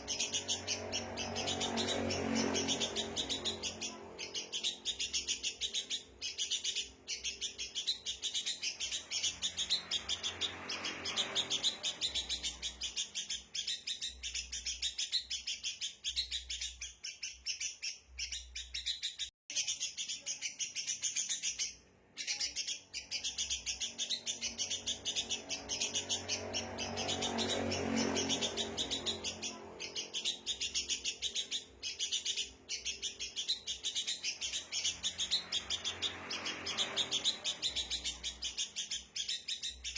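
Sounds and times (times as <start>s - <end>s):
birds alarm chatter: 0.0s - 39.9s.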